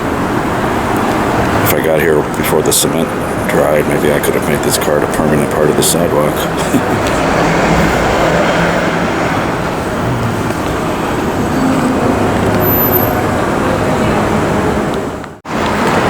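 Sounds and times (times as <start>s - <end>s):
low engine hum: 0.0s - 16.0s
passing vehicles: 0.0s - 16.0s.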